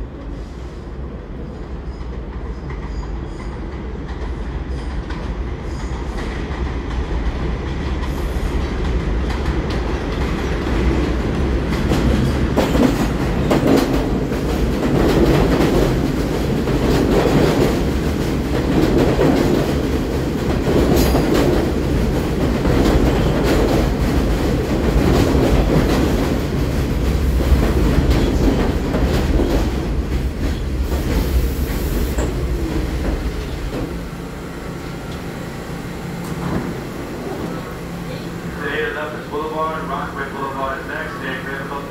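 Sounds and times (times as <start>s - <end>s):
subway train rumble: 0.0s - 41.9s.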